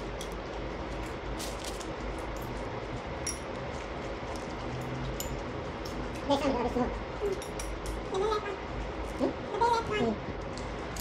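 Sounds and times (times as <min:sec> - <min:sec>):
low room hum and hiss: 0:00.0 - 0:11.0.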